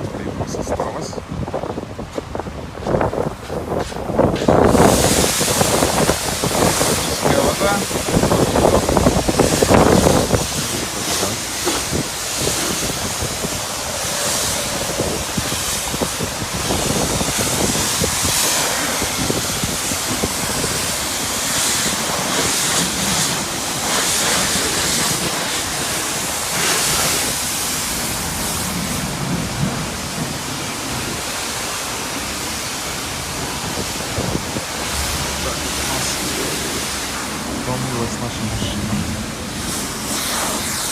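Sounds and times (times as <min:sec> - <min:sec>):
pressure washer spray hissing: 0:02.9 - 0:40.9.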